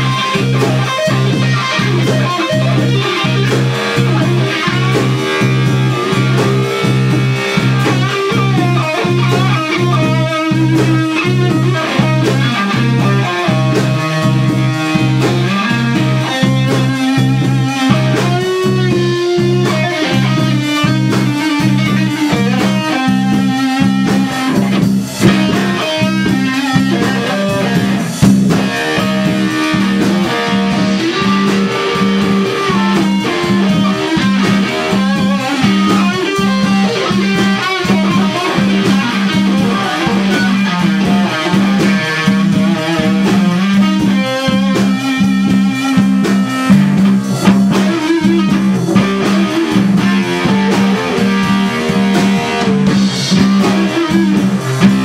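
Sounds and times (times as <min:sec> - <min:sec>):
bass: 0:00.0 - 0:55.0
drums: 0:00.0 - 0:55.0
electric guitar lead: 0:00.0 - 0:55.0
low guitar riff: 0:00.0 - 0:55.0.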